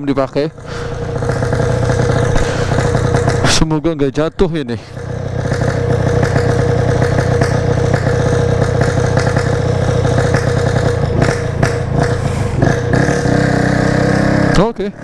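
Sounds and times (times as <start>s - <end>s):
two-stroke motorcycle engine idling: 0.0s - 15.0s.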